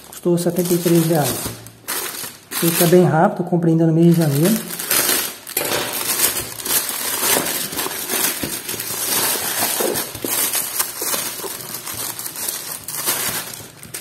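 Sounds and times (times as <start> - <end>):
plastic mailer bag crinkling: 0.0 - 3.2, 4.0 - 14.0.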